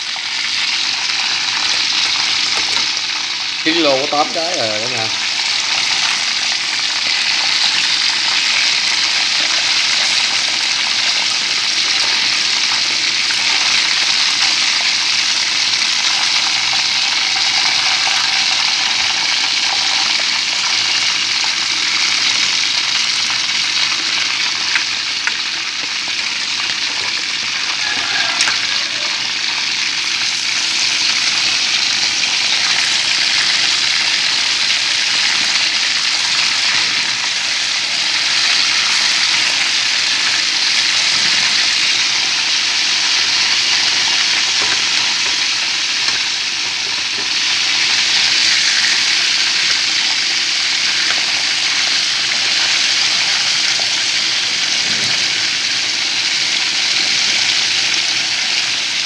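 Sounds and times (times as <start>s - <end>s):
chicken frying in oil: 0.0s - 59.0s.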